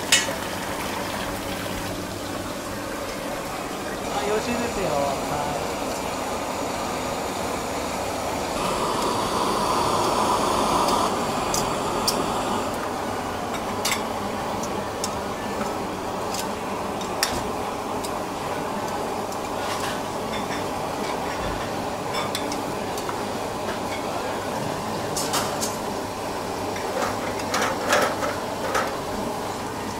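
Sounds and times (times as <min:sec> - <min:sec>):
scallop sizzling on a grill: 0:00.1 - 0:24.5.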